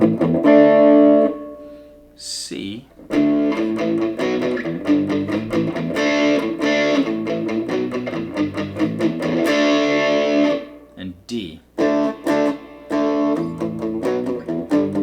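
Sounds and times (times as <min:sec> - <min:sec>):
electric guitar strummed chords: 0:00.0 - 0:02.1, 0:03.0 - 0:15.0.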